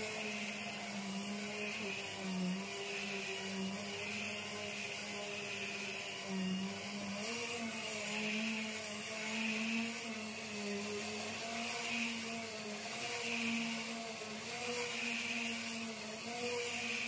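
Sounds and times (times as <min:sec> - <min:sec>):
orbital sander whirring: 0:00.0 - 0:17.0.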